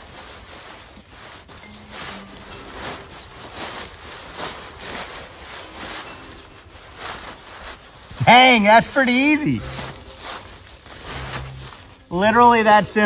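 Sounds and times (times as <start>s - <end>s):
tent fabric rustling: 0.0s - 13.0s.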